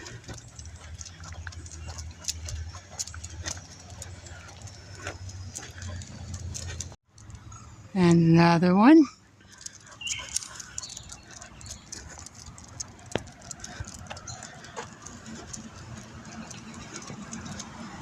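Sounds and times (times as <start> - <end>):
light footsteps: 0.0 - 7.0, 9.5 - 18.0
small clicks and jingles: 0.0 - 7.6, 9.4 - 18.0.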